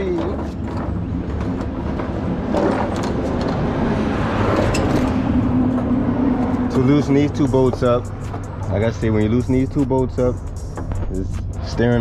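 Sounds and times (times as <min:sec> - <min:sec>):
engine noise: 0:00.0 - 0:12.0.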